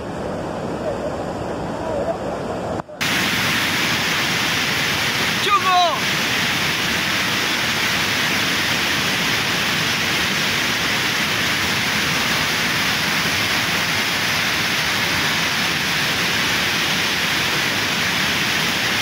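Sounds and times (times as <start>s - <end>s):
waterfall rushing: 3.0s - 19.0s.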